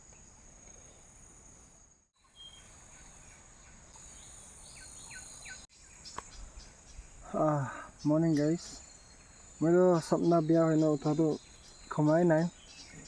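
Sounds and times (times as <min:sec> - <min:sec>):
bird chirps: 0:00.0 - 0:13.0
insects droning: 0:00.0 - 0:13.0.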